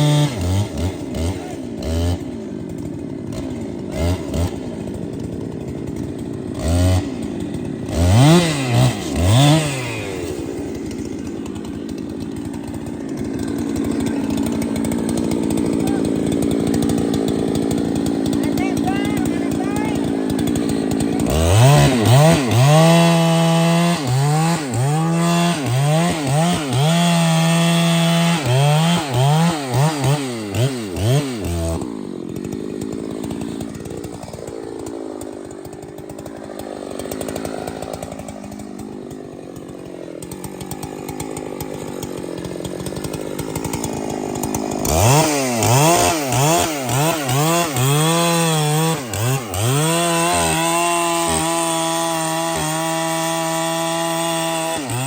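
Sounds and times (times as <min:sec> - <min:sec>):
chainsaw cutting tree trunk: 0:00.0 - 0:55.0.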